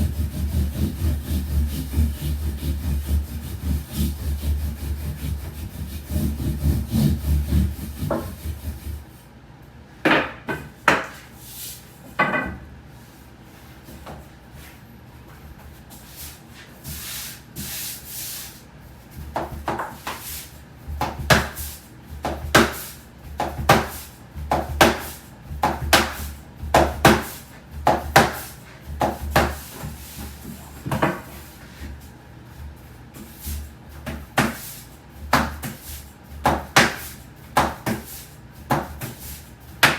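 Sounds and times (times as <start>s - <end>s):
rolling pin rubbing dough: 0.0s - 9.2s, 12.9s - 39.9s.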